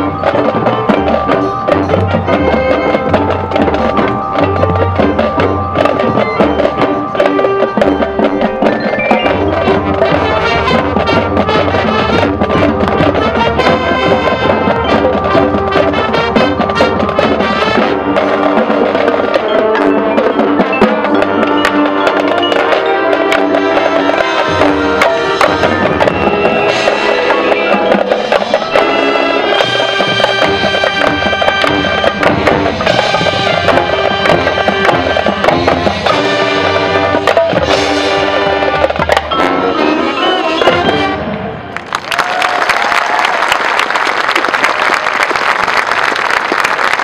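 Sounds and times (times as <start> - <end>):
marching band playing: 0.0 - 47.0.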